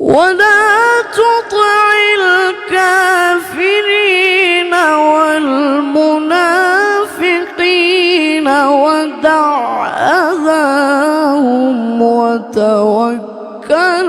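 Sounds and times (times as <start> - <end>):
person reciting in melodic voice: 0.0 - 14.0.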